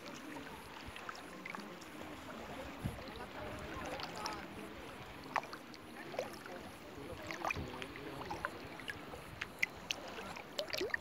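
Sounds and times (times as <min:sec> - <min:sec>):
sea water lapping and sloshing: 0:00.0 - 0:11.0
small splashes and drips: 0:00.0 - 0:11.0.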